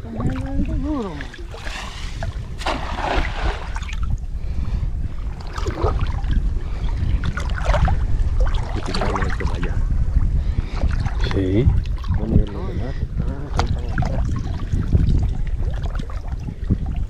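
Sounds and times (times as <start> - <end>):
water sloshing and splashing: 0.0 - 4.3, 5.1 - 9.8, 10.6 - 17.0
wind buffeting microphone: 0.0 - 17.0.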